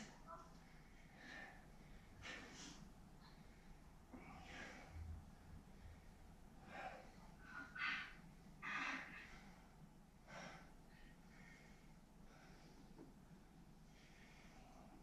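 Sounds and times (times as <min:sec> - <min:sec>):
person breathing hard: 0:00.6 - 0:15.0.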